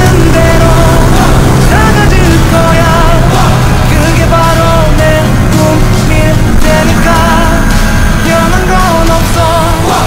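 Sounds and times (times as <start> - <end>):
song with sung melody: 0.0 - 10.0.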